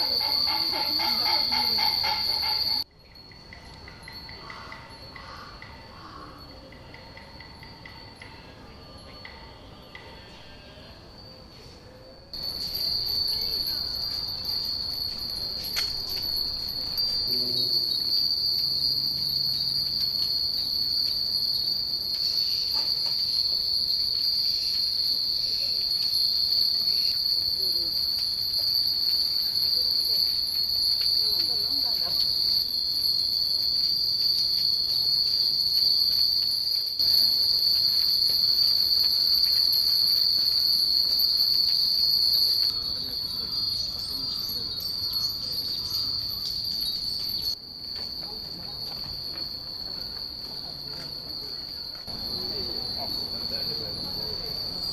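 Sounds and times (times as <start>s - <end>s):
wind chimes tinkling: 0.0s - 10.0s, 12.3s - 54.9s
insect drone: 0.0s - 54.9s.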